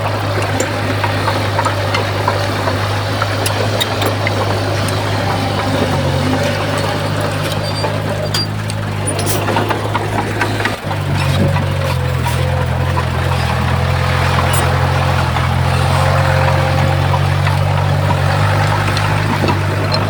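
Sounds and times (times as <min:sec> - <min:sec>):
bulldozer diesel engine humming: 0:00.0 - 0:20.0
clicks and clanks: 0:00.0 - 0:20.0.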